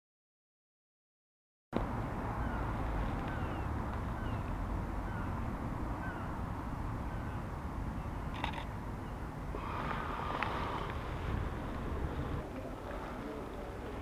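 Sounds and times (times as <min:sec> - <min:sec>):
steady low rumble: 0:01.8 - 0:14.0.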